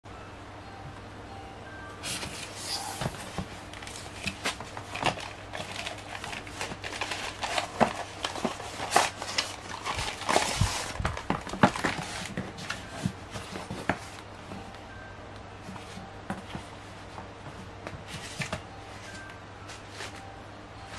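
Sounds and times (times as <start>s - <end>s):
cardboard rustling and scraping: 2.0s - 14.3s, 15.6s - 20.3s.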